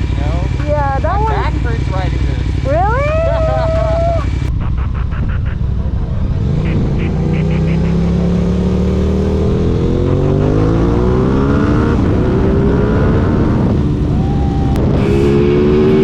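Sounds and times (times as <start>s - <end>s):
motorcycle engine accelerating hard: 0.0s - 16.0s.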